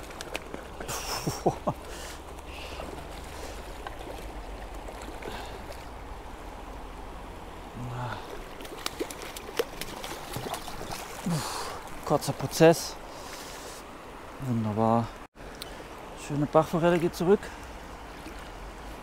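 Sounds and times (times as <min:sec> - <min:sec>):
stream water running: 0:00.0 - 0:19.0.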